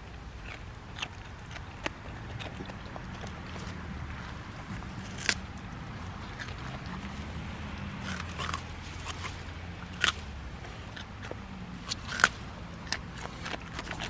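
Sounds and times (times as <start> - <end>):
dog crunching radish: 0.0 - 14.0.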